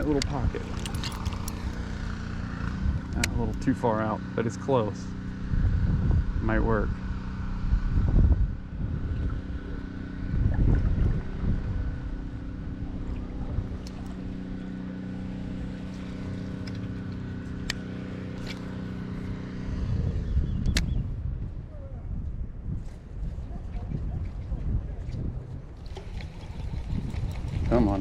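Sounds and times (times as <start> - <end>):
motor hum: 0.0 - 21.4, 25.6 - 28.0
wind rumbling on microphone: 0.0 - 28.0.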